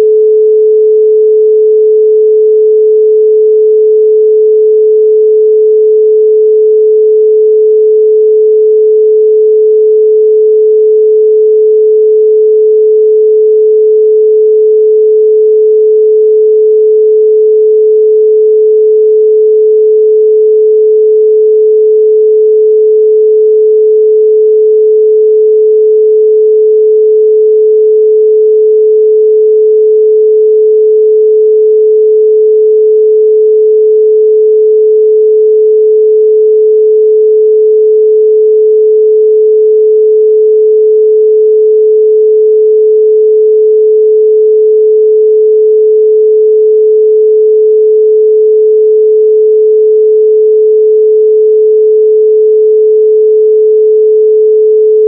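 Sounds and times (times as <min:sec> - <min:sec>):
pure sine tone: 0:00.0 - 0:55.0.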